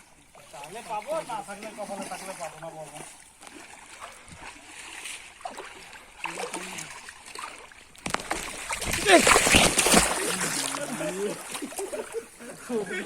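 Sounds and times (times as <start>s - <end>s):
water sloshing and splashing: 0.0s - 12.6s.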